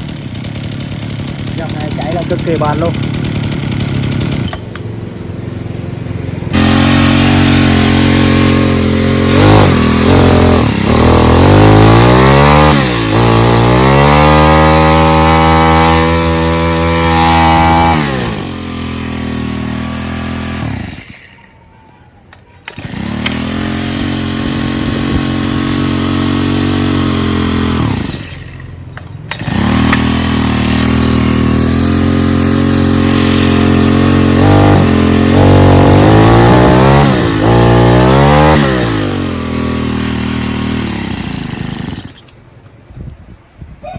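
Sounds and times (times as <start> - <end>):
chainsaw engine revving: 0.0 - 21.6, 22.3 - 42.4.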